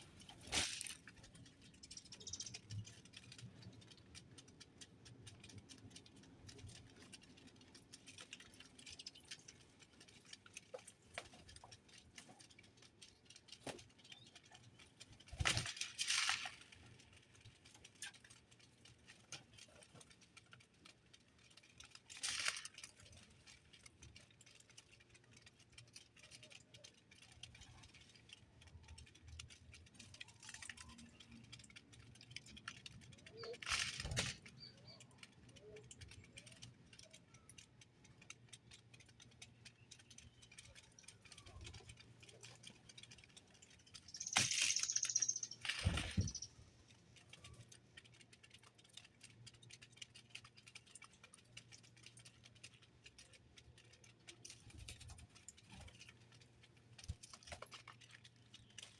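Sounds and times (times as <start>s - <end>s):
birds pecking at a feeder: 0.0s - 58.9s.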